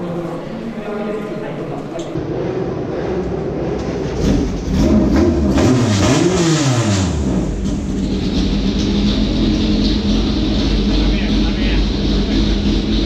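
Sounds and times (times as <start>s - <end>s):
race car engine revving: 2.1s - 13.0s.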